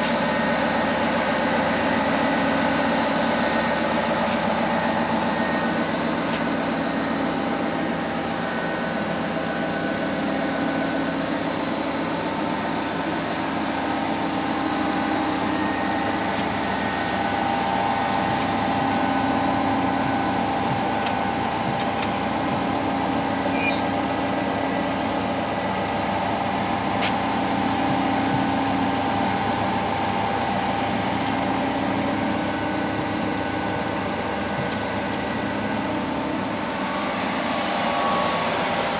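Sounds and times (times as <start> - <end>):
grinder machine hum and whine: 0.0 - 38.9.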